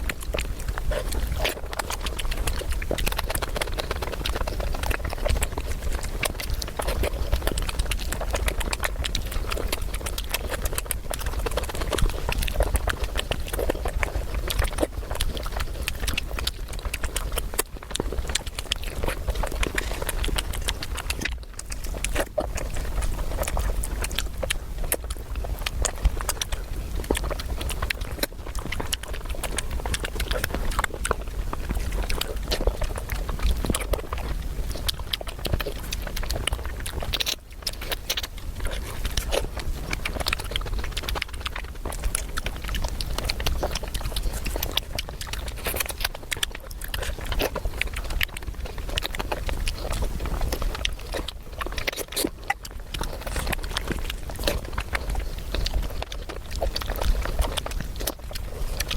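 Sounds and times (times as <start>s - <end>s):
chewing with crunches: 0.0s - 58.9s
wet mouth clicks: 0.0s - 58.9s.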